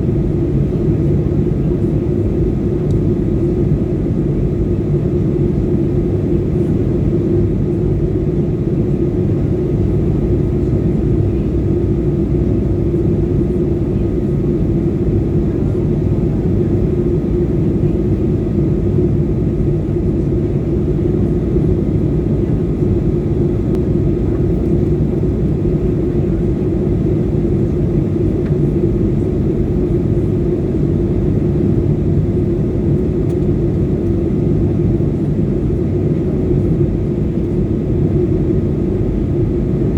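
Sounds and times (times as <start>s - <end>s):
airliner cabin engine rumble: 0.0s - 39.9s
constant hum: 0.0s - 39.9s.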